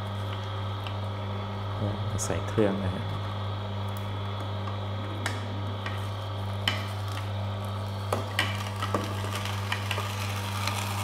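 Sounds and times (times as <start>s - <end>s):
juicer motor hum: 0.0s - 11.0s.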